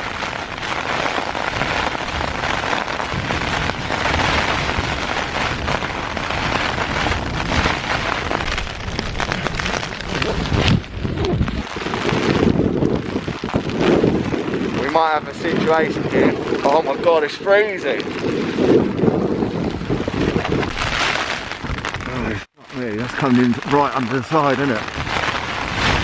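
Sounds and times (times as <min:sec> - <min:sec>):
heavy rain on a tent: 0:00.0 - 0:26.0.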